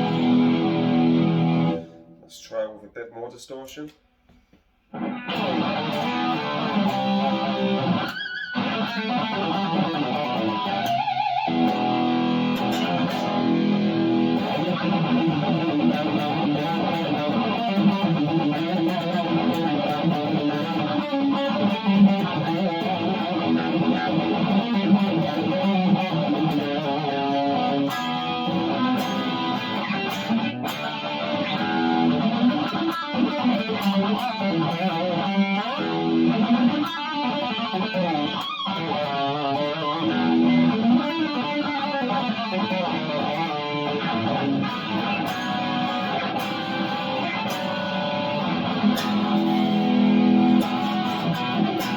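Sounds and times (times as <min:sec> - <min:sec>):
distorted electric guitar strumming: 0:00.0 - 0:02.4, 0:04.9 - 0:51.9.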